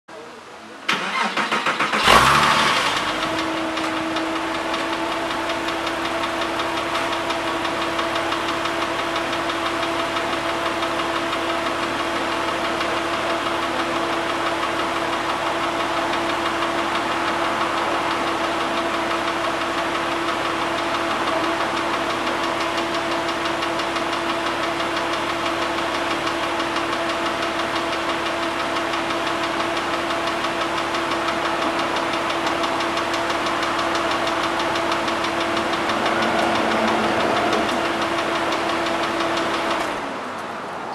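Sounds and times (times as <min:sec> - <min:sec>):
engine idling with knocking clatter: 0:00.9 - 0:40.7.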